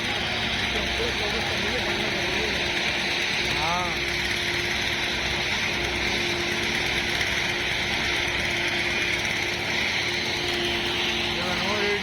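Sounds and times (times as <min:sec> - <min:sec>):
construction machinery engine humming: 0:00.0 - 0:12.0
hissing mechanical noise: 0:00.0 - 0:12.0.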